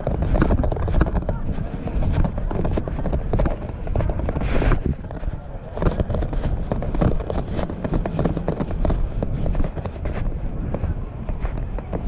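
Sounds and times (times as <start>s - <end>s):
footsteps in sand: 0.0s - 12.0s
wind rumble on microphone: 0.0s - 12.0s.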